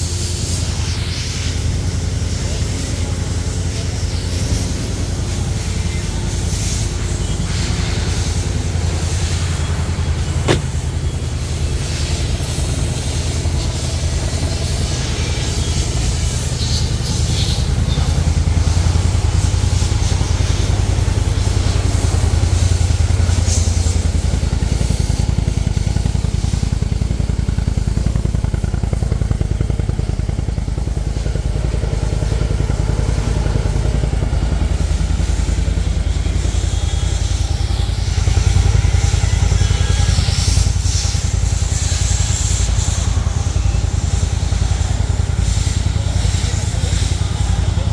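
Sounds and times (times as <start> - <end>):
engine low rumble: 0.0 - 47.9.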